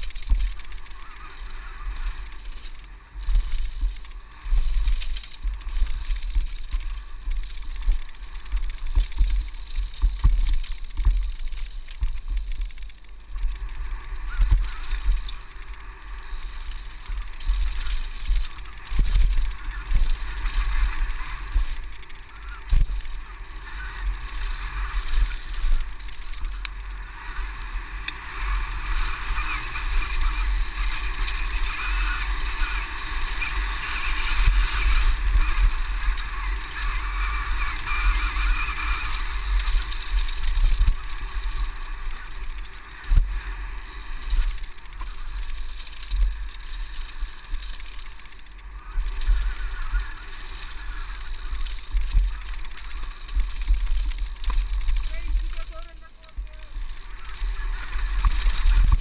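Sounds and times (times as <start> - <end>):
bike tyre noise and rattle: 0.0 - 59.0
wind rumble on microphone: 0.0 - 59.0.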